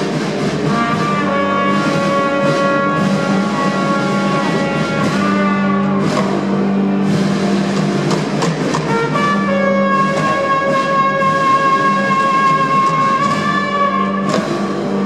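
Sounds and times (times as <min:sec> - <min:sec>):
brass chords: 0:00.0 - 0:15.0
solo trumpet: 0:00.0 - 0:15.0.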